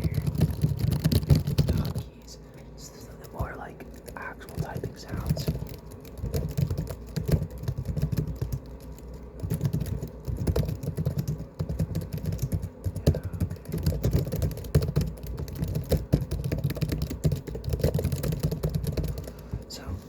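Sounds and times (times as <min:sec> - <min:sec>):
laptop keyboard typing: 0:00.0 - 0:19.9.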